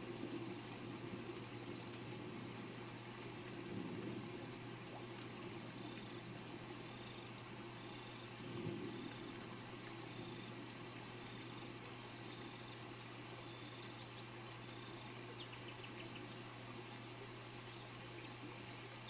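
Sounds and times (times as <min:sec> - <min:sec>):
low constant hum: 0:00.0 - 0:19.0
rain falling: 0:00.0 - 0:19.0.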